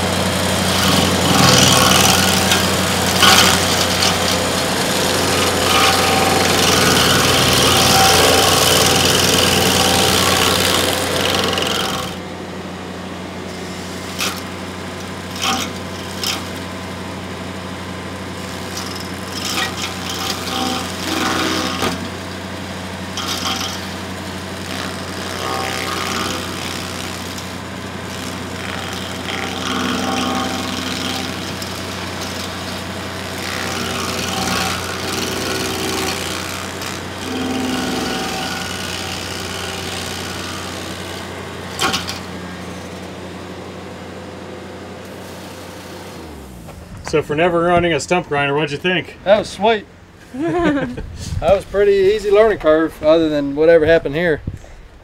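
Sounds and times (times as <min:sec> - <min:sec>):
tractor engine humming: 0:00.0 - 0:29.6, 0:30.4 - 0:37.3, 0:37.9 - 0:55.0
stump grinder grinding: 0:00.0 - 0:47.6.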